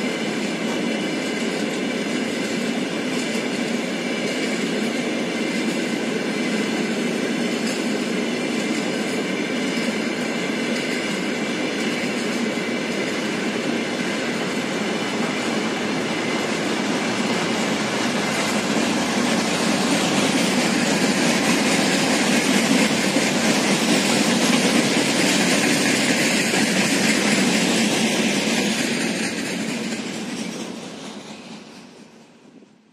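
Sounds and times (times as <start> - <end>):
train wheels rumbling and rattling: 0.0 - 32.9.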